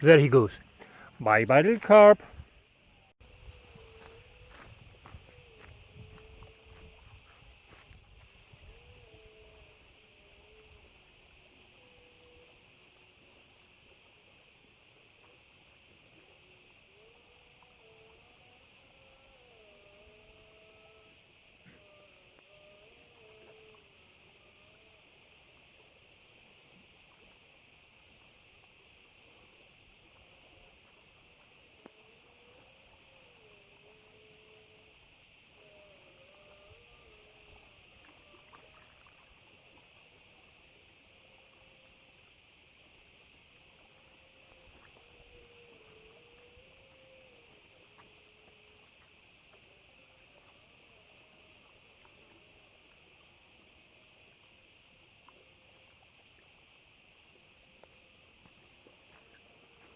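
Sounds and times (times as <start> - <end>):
faint insect chorus: 0.0 - 59.9.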